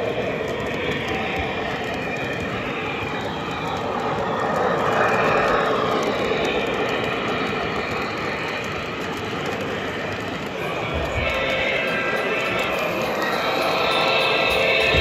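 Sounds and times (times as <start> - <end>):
model train wheels clattering on rails: 0.0 - 15.0.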